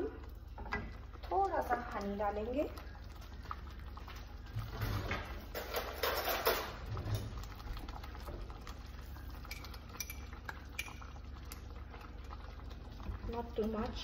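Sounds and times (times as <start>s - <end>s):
gravy bubbling and popping: 0.0s - 14.0s.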